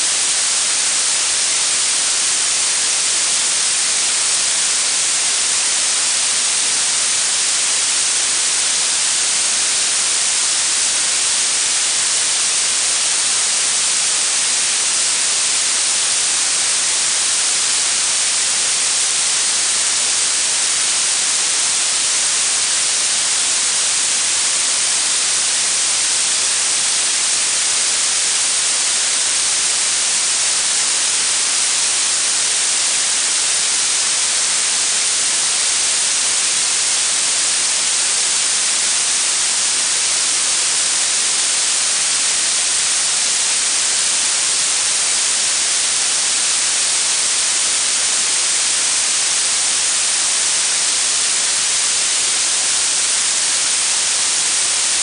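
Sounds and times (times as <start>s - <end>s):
blue noise hiss: 0.0s - 55.0s.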